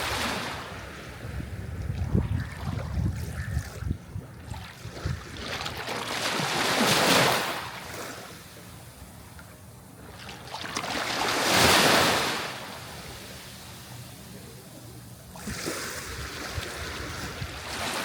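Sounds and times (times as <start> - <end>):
sea waves breaking on shore: 0.0 - 3.8, 4.4 - 8.8, 10.0 - 14.3, 15.3 - 18.0.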